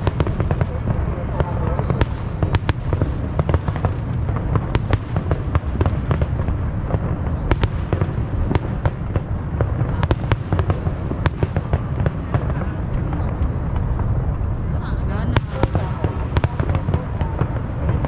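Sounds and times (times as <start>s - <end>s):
fireworks bangs and crackles: 0.0s - 18.0s
low rumble of booms: 0.0s - 18.0s.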